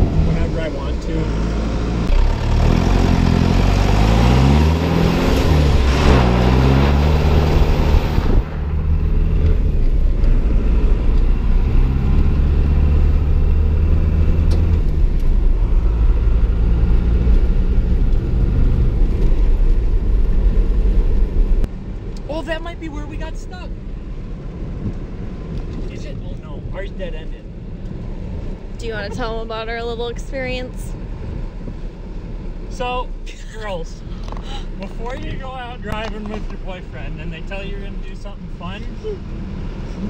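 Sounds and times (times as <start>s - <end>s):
diesel engine accelerating: 0.0s - 40.0s.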